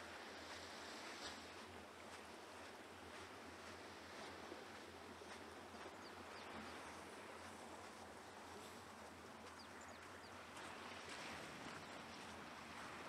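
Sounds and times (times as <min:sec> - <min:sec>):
distant surf: 0:00.0 - 0:13.0.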